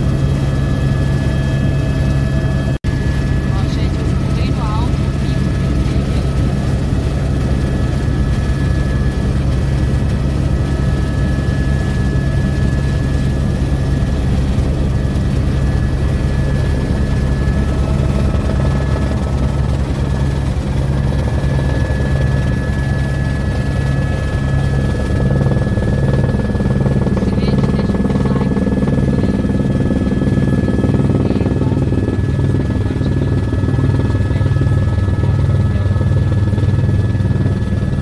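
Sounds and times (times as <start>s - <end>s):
helicopter rotor and engine drone: 0.0s - 38.0s
thin steady whine: 0.0s - 38.0s.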